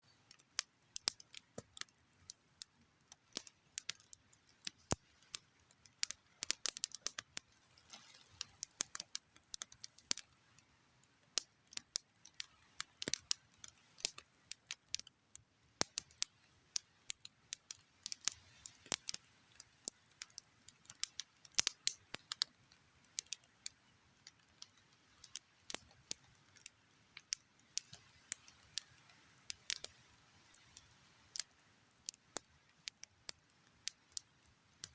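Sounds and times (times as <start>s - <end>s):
faint fire hiss: 0.0s - 34.9s
campfire crackling: 0.1s - 34.9s.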